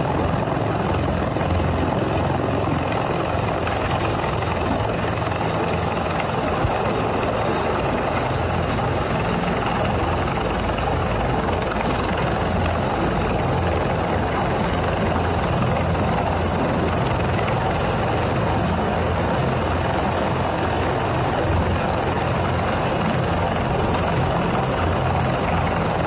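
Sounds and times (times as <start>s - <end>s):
helicopter hovering overhead: 0.0s - 26.0s.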